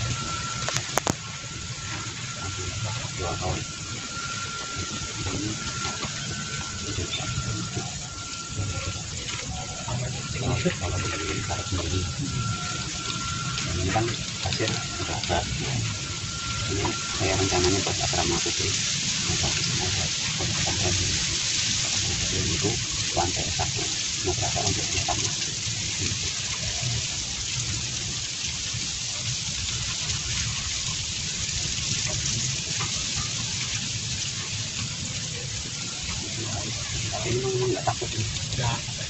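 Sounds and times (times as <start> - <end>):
running water hissing: 0.0 - 39.0.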